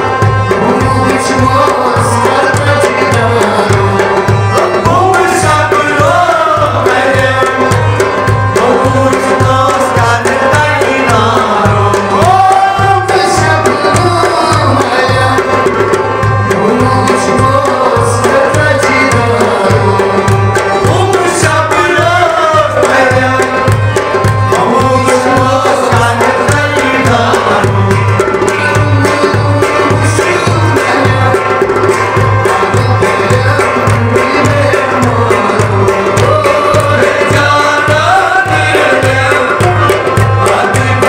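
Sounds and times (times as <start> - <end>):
hand drum beat: 0.0 - 41.0
harmonium: 0.0 - 41.0
man singing: 0.0 - 41.0.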